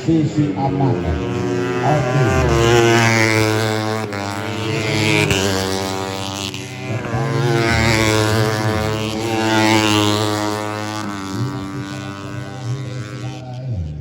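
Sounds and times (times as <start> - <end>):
motorcycle engines revving high: 0.0 - 14.0.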